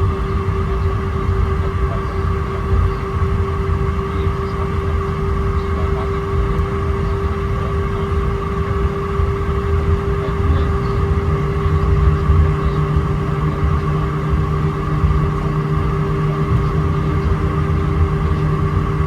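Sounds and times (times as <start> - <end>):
airplane cabin engine hum: 0.0 - 19.0.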